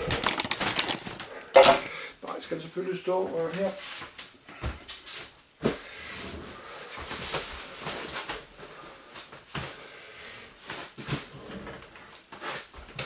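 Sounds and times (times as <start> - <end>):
rustling of boxes and furniture: 0.0 - 9.9, 10.5 - 13.0.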